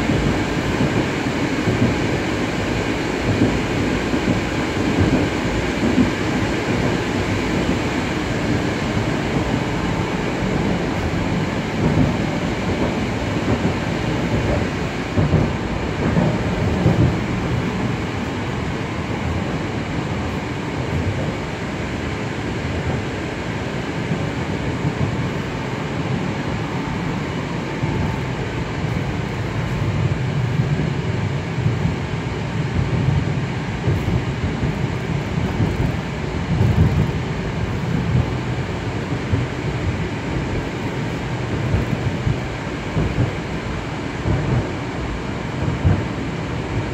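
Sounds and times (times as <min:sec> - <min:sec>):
train car bumps: 0:00.0 - 0:23.4, 0:24.0 - 0:46.9
train wheels rumbling: 0:00.0 - 0:46.9.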